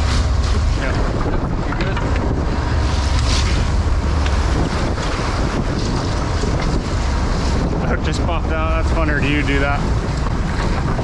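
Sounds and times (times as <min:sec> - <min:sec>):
steady low rumble: 0:00.0 - 0:11.0
water rushing: 0:00.0 - 0:11.0
wind buffeting microphone: 0:00.0 - 0:11.0.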